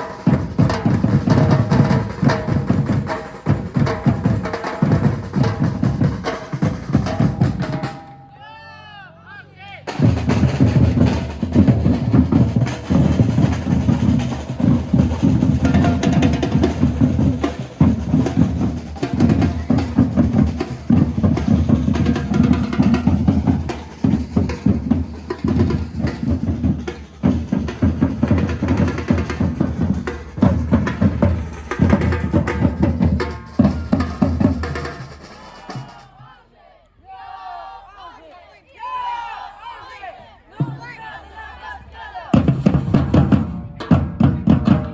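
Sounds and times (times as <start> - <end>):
samba drum ensemble: 0.0 - 8.2, 9.8 - 36.4, 38.9 - 44.9.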